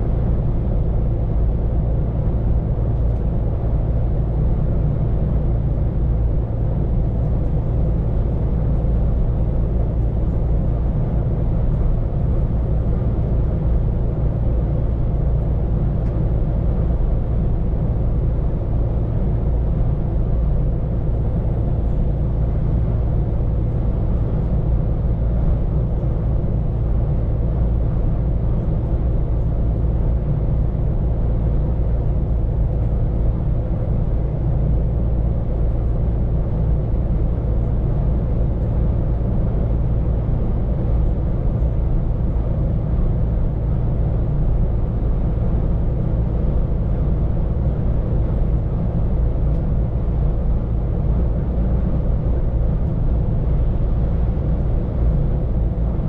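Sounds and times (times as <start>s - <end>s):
road rumble: 0.0s - 56.0s.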